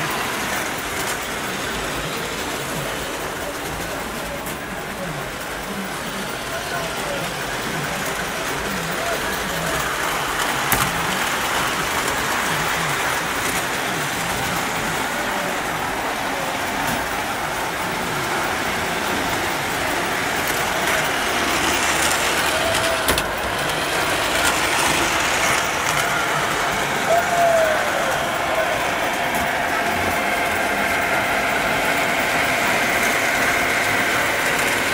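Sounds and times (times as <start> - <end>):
model trains whirring: 0.0 - 34.9.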